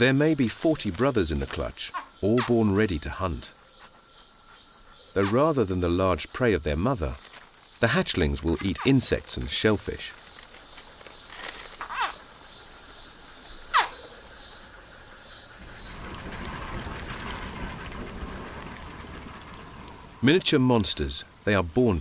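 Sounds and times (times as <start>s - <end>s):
outdoor wetland ambience: 0.0s - 22.0s.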